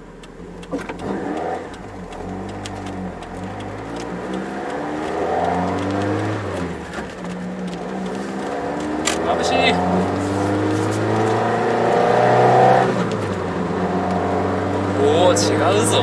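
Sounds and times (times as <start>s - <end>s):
car engine revving through gears: 0.0s - 16.0s.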